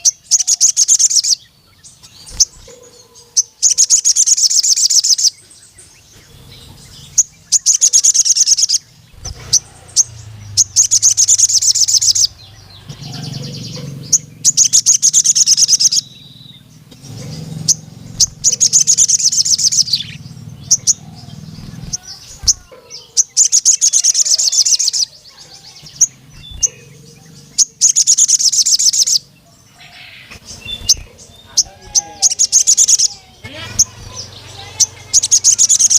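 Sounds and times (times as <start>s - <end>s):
bird sharp chips: 0.0s - 29.2s, 29.8s - 35.9s
bird trilling song: 0.0s - 35.9s.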